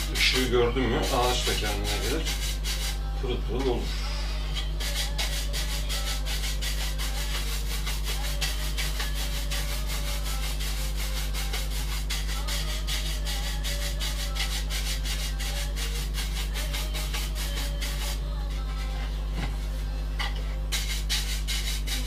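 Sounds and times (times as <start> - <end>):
bristle brush scrubbing wood: 0.0 - 3.0, 4.8 - 19.1, 20.7 - 22.0
low electrical hum: 0.0 - 22.0.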